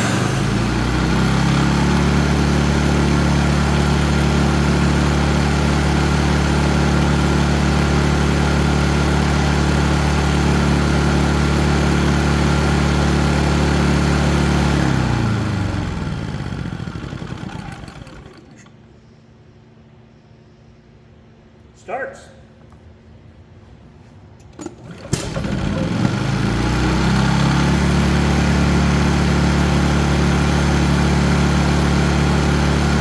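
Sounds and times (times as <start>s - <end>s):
generator engine running: 0.0s - 18.7s, 24.4s - 33.0s.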